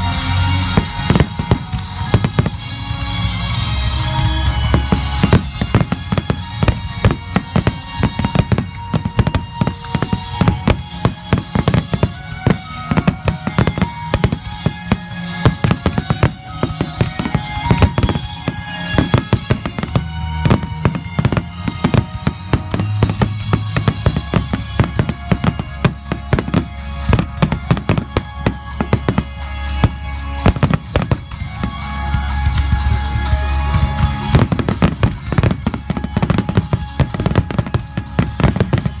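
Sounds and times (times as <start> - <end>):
music playing: 0.0 - 39.0
firework shells bursting: 4.5 - 39.0.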